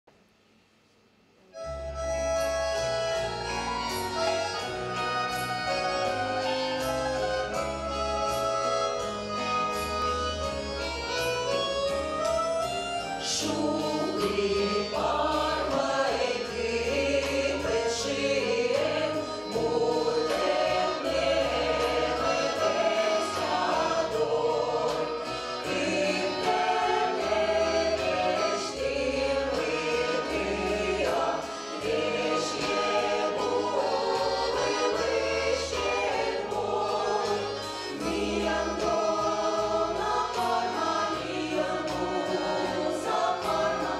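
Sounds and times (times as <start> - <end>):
bass: 1.6 - 43.9
choir singing folk song: 1.9 - 43.9.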